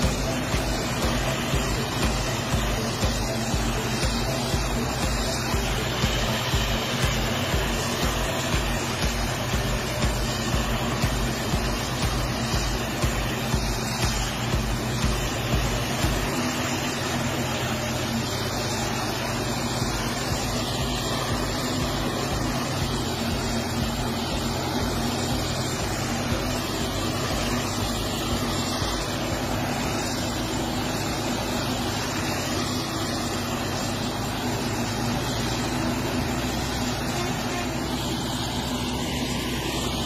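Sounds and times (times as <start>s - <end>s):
harvester engine drone: 0.0s - 40.0s.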